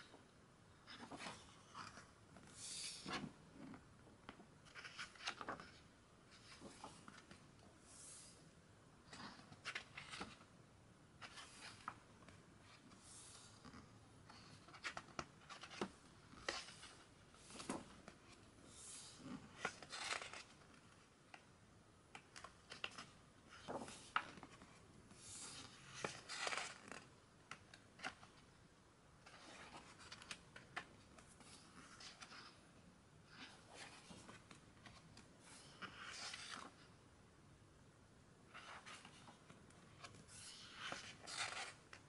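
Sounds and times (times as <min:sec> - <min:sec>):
book pages turning: 0:00.8 - 0:07.4, 0:09.2 - 0:10.5, 0:11.2 - 0:21.5, 0:22.1 - 0:28.4, 0:29.2 - 0:32.6, 0:33.3 - 0:37.0, 0:38.5 - 0:42.0.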